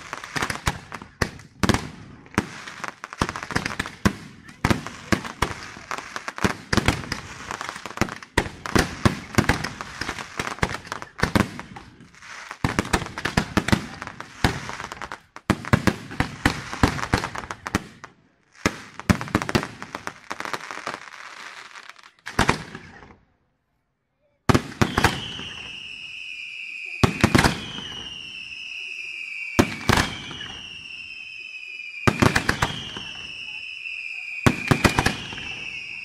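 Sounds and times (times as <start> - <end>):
fireworks bursting: 0.0 - 23.2, 24.5 - 36.0
fireworks crackle: 0.0 - 23.2, 24.5 - 36.0.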